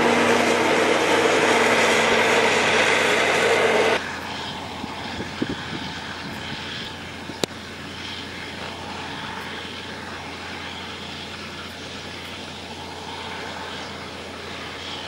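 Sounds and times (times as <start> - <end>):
forage harvester engine drone: 0.0 - 15.0.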